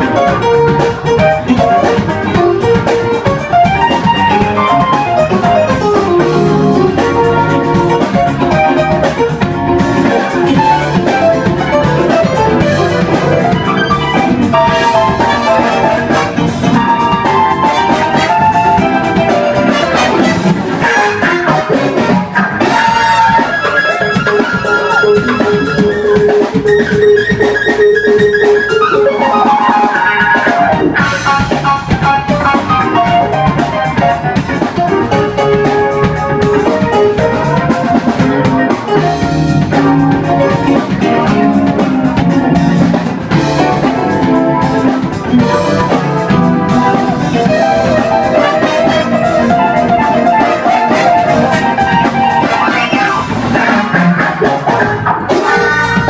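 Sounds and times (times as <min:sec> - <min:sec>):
drum kit: 0:00.0 - 0:56.0
guitar melody notes: 0:00.0 - 0:56.0
live band playing funk-blues: 0:00.0 - 0:56.0.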